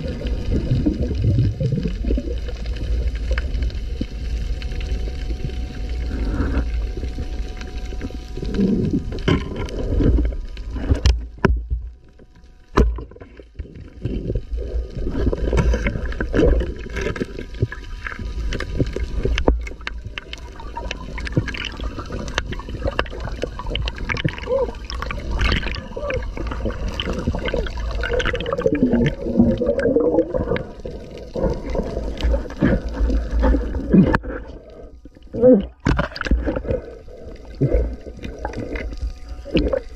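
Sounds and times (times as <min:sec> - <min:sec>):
low underwater rumble: 0:00.0 - 0:39.9
underwater bubbles gurgling: 0:00.0 - 0:39.9.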